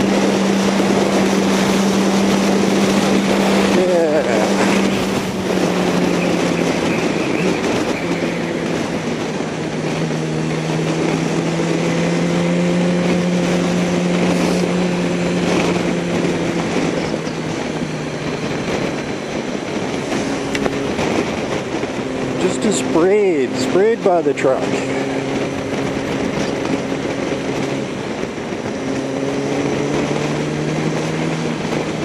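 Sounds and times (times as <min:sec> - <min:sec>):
motorcycle engine cruising: 0:00.0 - 0:32.0
tyre noise on wet road: 0:00.0 - 0:32.0
wind: 0:00.0 - 0:32.0.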